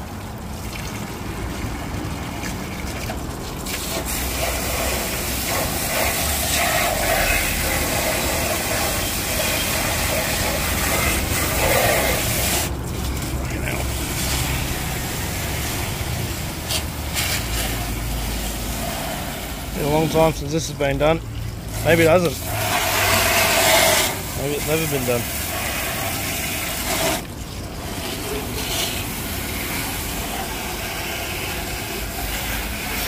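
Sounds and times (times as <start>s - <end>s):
hose water spraying on panel: 2.3s - 33.0s.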